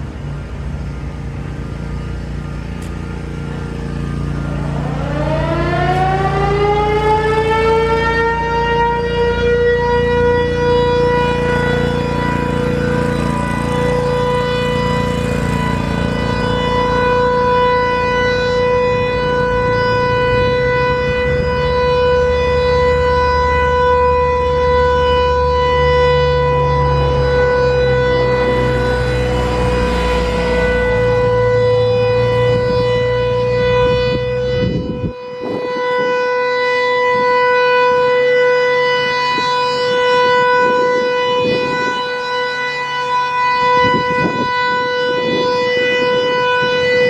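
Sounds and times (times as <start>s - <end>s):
mechanical warning siren: 0.0s - 47.0s.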